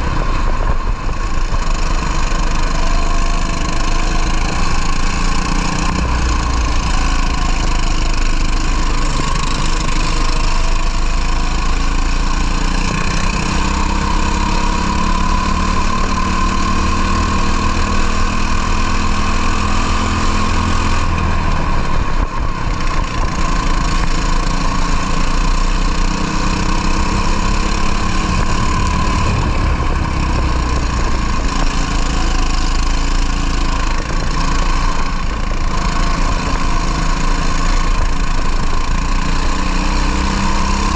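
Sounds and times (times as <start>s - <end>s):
wind noise: 0.0s - 8.2s, 15.8s - 40.9s
kart engine revving: 0.0s - 40.9s.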